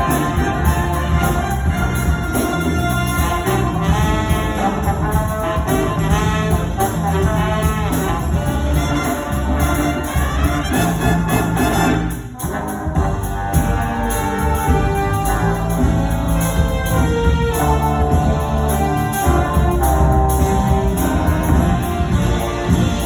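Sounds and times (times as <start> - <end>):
bass line: 0.0 - 23.0
jazz big band playing: 0.0 - 23.0
trumpets and trombones: 0.0 - 23.0.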